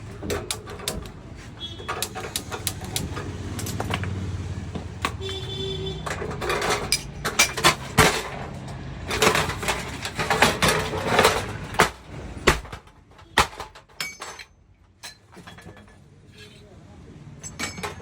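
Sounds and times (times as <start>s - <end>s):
hard objects knocking and clinking: 0.0s - 16.1s, 17.3s - 18.0s.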